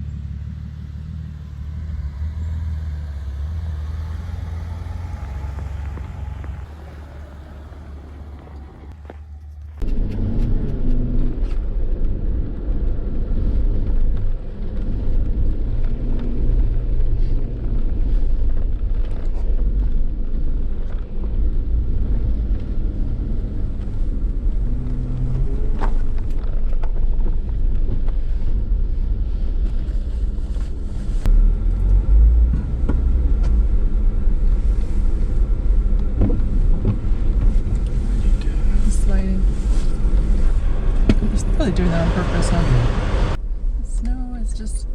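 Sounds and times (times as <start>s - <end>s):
car engine and tyres rumbling: 0.0s - 44.9s.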